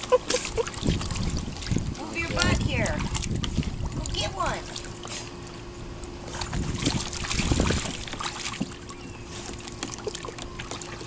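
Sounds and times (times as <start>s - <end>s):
water splashing in a pool: 0.0s - 5.4s, 6.3s - 11.0s.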